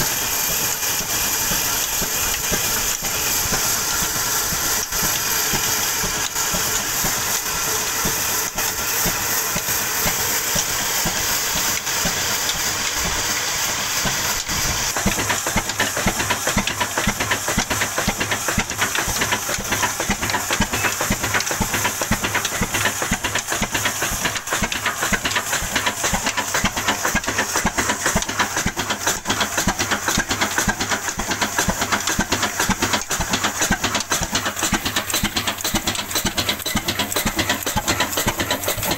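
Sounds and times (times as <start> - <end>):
diesel engine exhaust beat: 0.0 - 38.9
drone of belts and shaft: 0.0 - 38.9.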